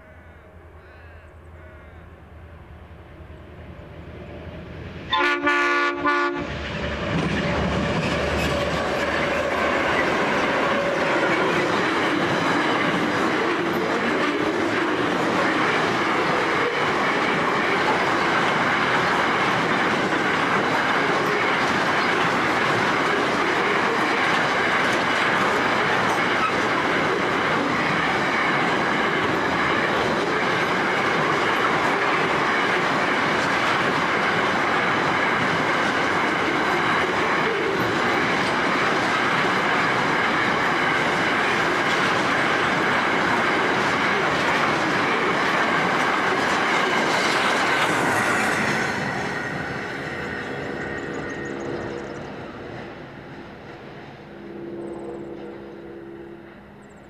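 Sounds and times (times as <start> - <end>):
train wheels on rails: 3.3 - 54.3.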